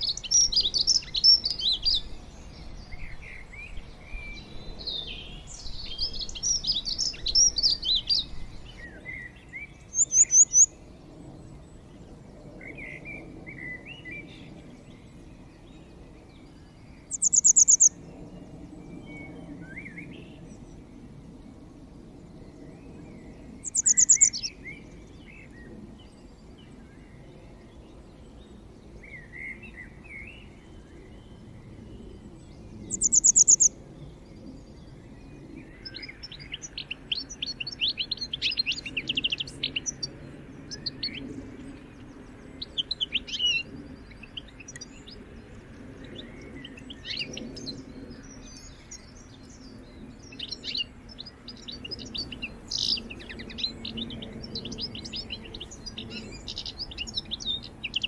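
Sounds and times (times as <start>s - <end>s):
birds chirping and singing: 0.0s - 21.2s, 22.3s - 58.0s.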